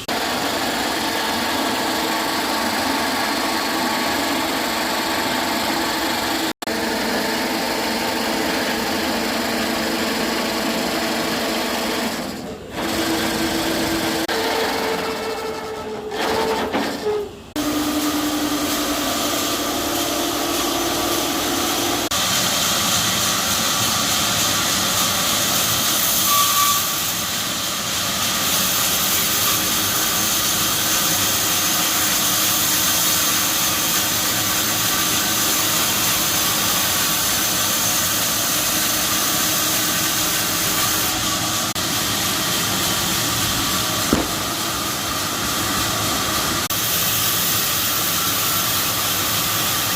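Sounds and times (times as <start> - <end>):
woodworking power tool hissing: 0.0 - 49.9.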